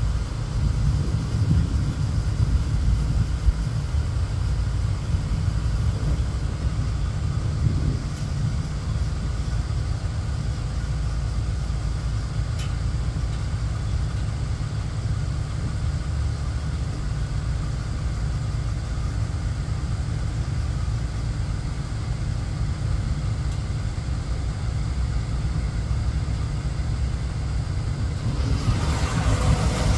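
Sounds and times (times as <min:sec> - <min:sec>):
jet airliner rumble overhead: 0:00.0 - 0:29.9.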